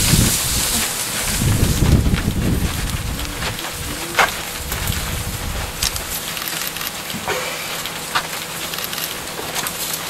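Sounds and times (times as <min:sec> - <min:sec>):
dry brush and twigs crackling: 0:00.0 - 0:10.0
steady hiss: 0:00.0 - 0:10.0.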